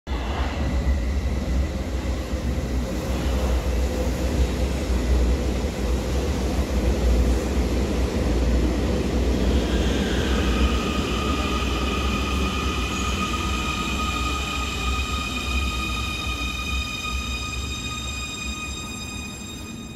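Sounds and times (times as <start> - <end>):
metro train rumbling on rails: 0.1 - 19.9.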